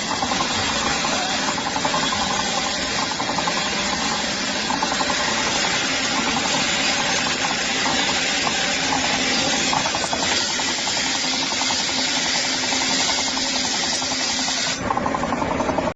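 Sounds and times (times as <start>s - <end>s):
machine clattering: 0.0s - 15.9s.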